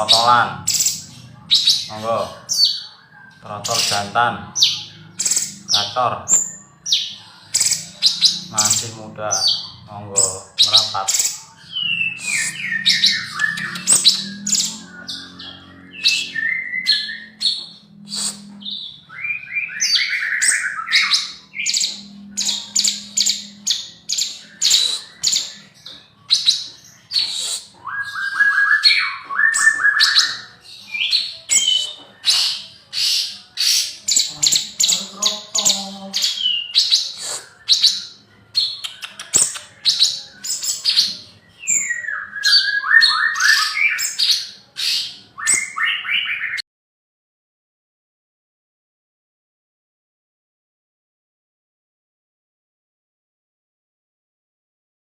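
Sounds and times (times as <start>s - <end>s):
bird singing chirps and trills: 0.0s - 46.6s.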